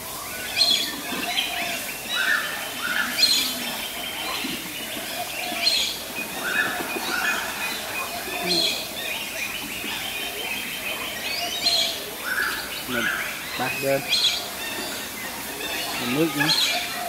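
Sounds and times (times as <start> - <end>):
birds chirping: 0.0 - 17.0
faint outdoor background: 0.0 - 17.0.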